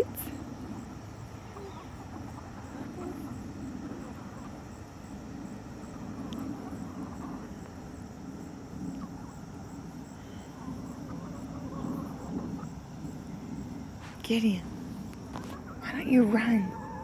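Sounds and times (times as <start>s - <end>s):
insects chirping: 0.0s - 17.0s
low background noise: 0.0s - 17.0s.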